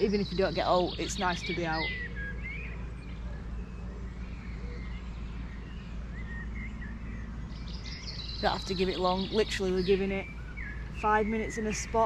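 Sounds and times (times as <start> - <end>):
low background rumble: 0.0 - 12.0
songbird chirps: 0.0 - 12.0.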